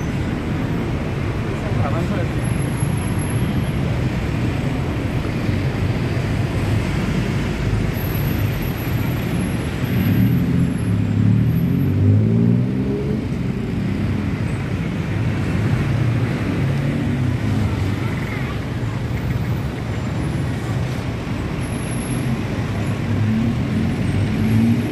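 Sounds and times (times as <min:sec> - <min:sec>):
car and bus engines: 0:00.0 - 0:24.9.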